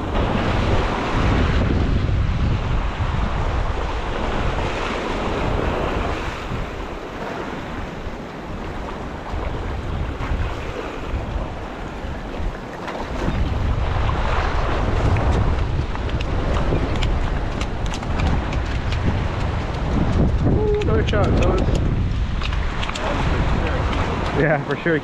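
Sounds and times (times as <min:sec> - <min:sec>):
sea waves breaking on rocks: 0:00.0 - 0:25.0
wind buffeting microphone: 0:00.0 - 0:25.0.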